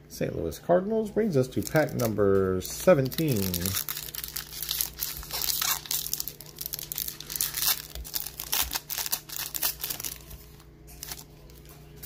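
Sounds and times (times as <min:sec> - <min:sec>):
foil wrapper tearing and crinkling: 0:01.5 - 0:11.6.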